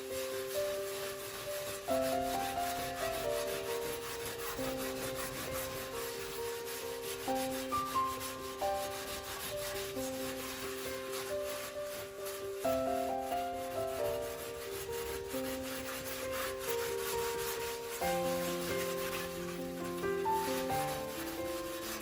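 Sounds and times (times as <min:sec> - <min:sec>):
wire scrubber scrubbing glass: 0:00.0 - 0:22.0.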